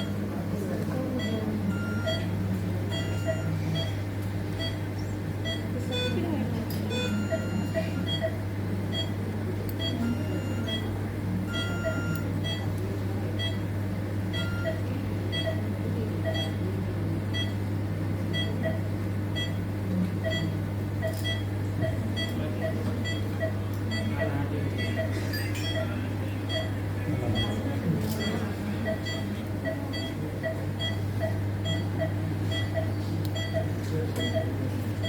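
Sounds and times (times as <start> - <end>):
patient monitor beeping: 1.1 - 35.0.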